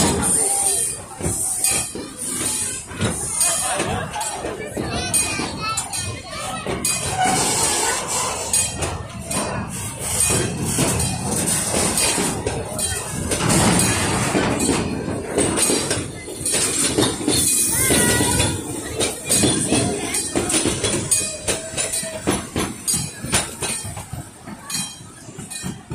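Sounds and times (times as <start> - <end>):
train carriages rumbling past: 0.0 - 25.9
wheel clicks over rail joints: 0.0 - 25.9.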